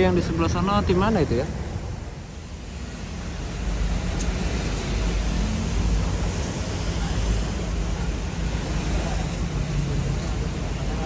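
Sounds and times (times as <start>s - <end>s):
bus engines idling: 0.0s - 11.0s.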